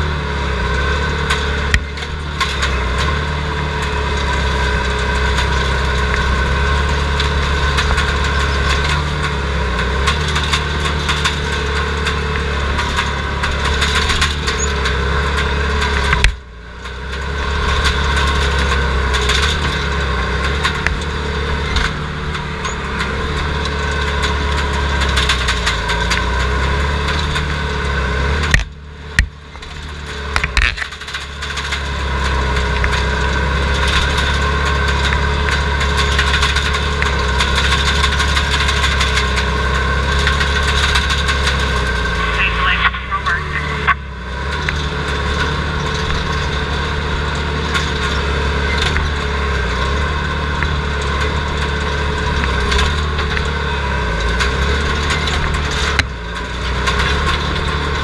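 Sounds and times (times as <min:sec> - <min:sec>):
loader engine running: 0:00.0 - 0:58.0.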